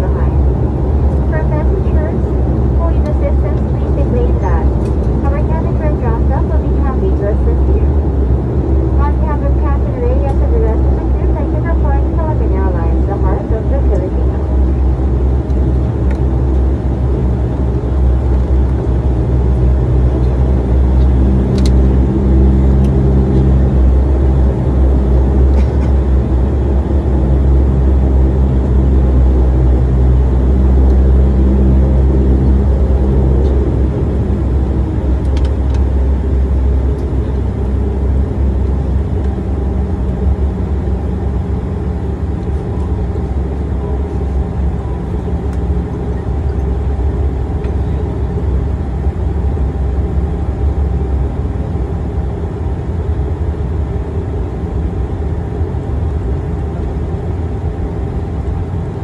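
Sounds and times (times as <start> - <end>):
turboprop engine drone: 0.0 - 59.0.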